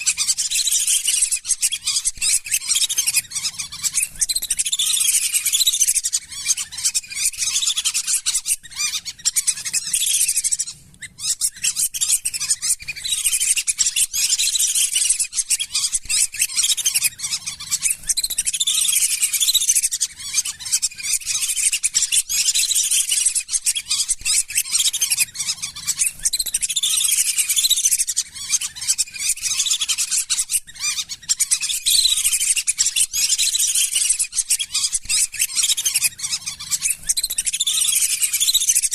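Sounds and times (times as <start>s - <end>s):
ducks whistling: 0.0s - 38.9s.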